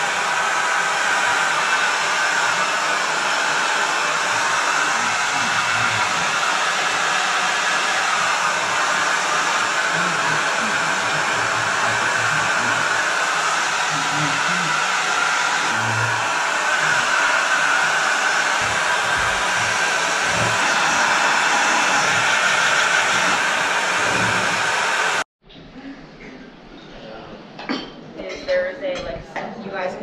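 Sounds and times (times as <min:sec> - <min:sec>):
hair dryer blowing: 0:00.0 - 0:25.3.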